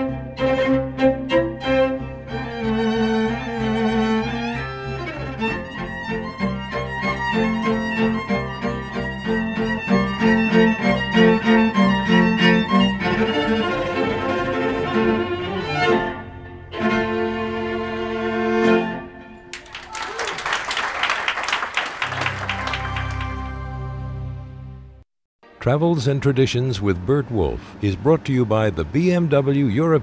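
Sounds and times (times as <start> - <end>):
string ensemble playing: 0.0 - 19.8, 22.0 - 30.0.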